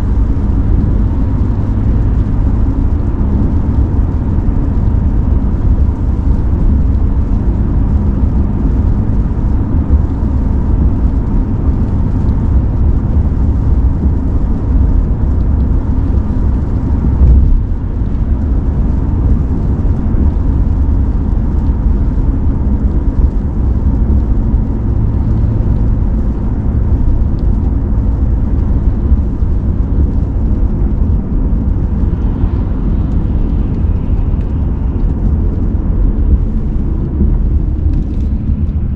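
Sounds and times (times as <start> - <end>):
road and engine rumble in car: 0.0 - 38.9.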